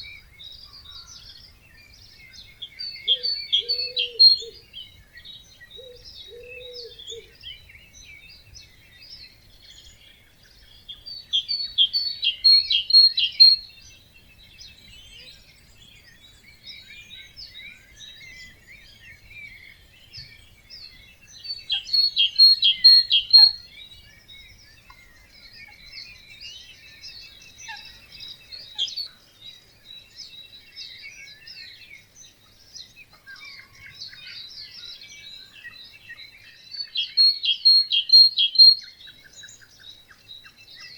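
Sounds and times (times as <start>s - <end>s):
bird song of rapid notes: 0.0s - 40.9s
chorus of birds singing: 0.0s - 40.9s.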